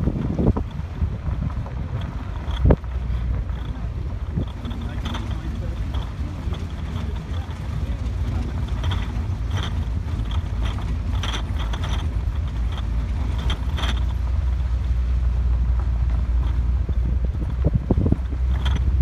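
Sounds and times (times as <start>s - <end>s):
rattles and creaks: 0.0s - 19.0s
vehicle rumble: 0.0s - 19.0s.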